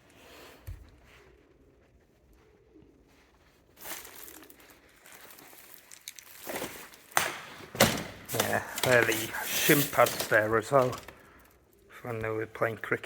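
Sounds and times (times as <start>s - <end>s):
crinkling crunching rustle: 2.0s - 13.0s.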